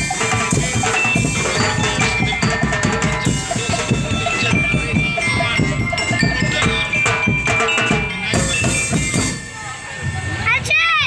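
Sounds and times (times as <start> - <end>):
street-dance music with fast drums: 0.0 - 11.0.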